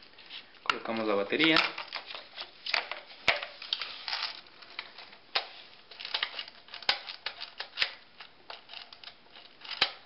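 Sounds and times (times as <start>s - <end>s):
battery and wires handling rustle: 0.0s - 9.5s.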